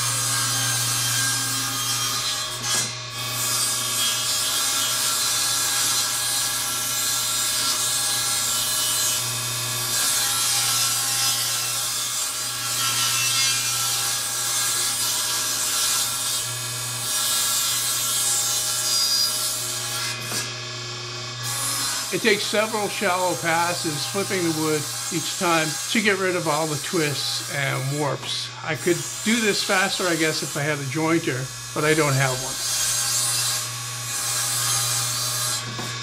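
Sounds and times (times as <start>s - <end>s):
saw blade cutting wood: 0.0s - 36.0s
table saw motor whine: 0.0s - 36.0s.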